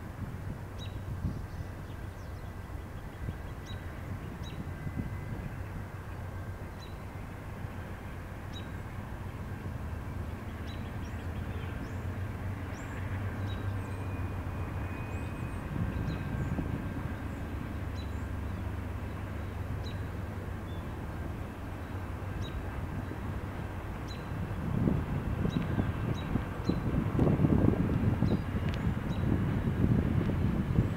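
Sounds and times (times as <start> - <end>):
distant mechanical rumble: 0.0 - 30.9.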